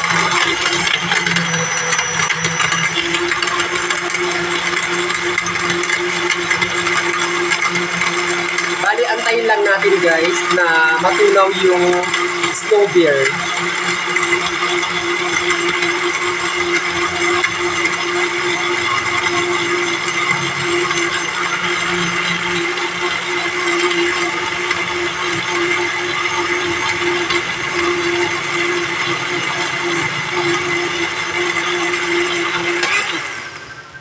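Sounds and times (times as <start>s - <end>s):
blender motor winding down: 0.0s - 34.0s
electric blender running: 0.0s - 34.0s.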